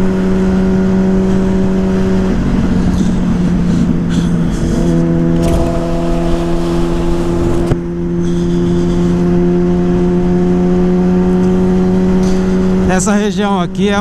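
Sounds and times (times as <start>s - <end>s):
motorcycle engine running: 0.0s - 14.0s
road and wind rush: 0.0s - 14.0s.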